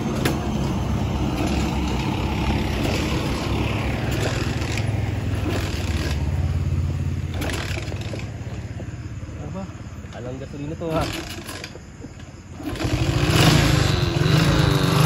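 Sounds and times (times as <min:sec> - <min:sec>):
small motorcycle engine running: 0:00.0 - 0:10.0, 0:10.8 - 0:15.0.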